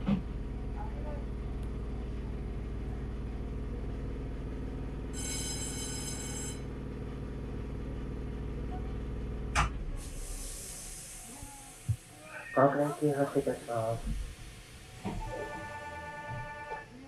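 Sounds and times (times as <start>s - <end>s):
electric train hum and rumble: 0.0s - 17.0s.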